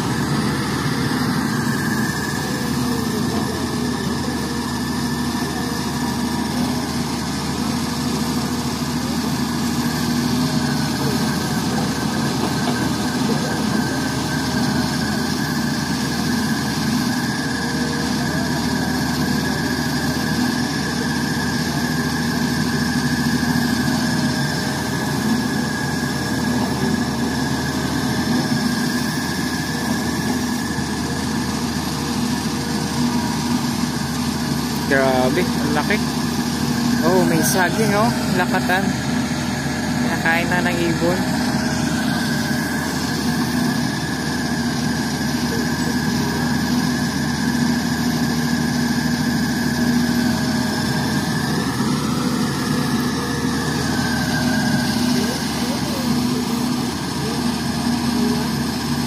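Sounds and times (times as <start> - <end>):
excavator diesel engine running: 0.0 - 59.0
high-pitched whine: 0.0 - 59.0.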